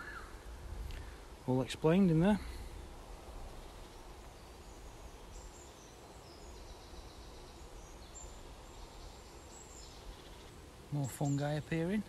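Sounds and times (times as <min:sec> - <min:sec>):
distant small birds singing: 0:00.0 - 0:12.0.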